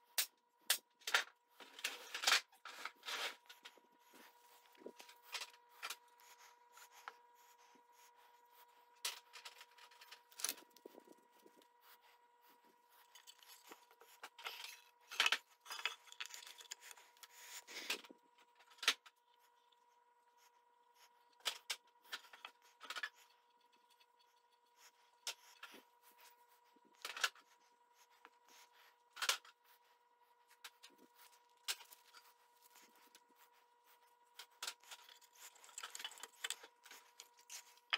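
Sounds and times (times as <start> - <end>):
faint high hum: 0.0 - 37.9.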